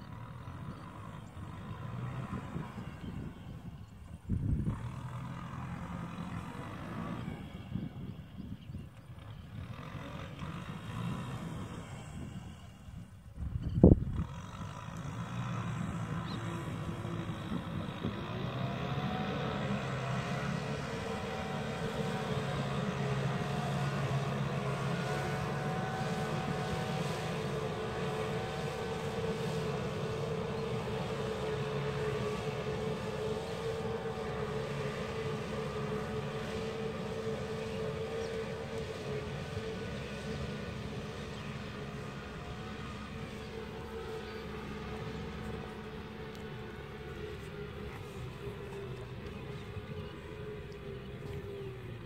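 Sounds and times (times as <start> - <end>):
tractor engine droning: 0.0 - 52.0.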